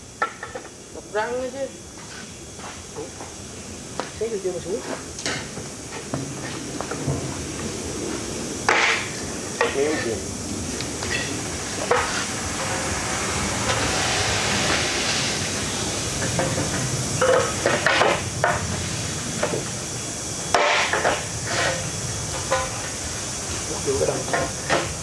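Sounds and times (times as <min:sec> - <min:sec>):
hissing machine noise: 0:00.0 - 0:25.0.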